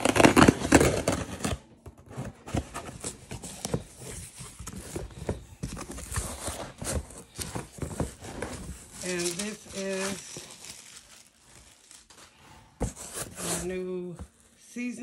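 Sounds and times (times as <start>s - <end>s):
packaging cutting and tearing: 0.0s - 13.7s
rustling and handling: 0.0s - 15.0s.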